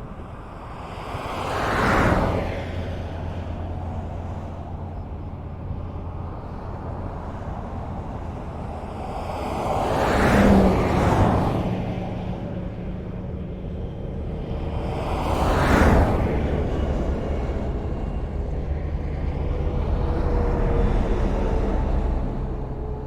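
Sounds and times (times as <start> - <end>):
highway traffic rumble: 0.0 - 23.0.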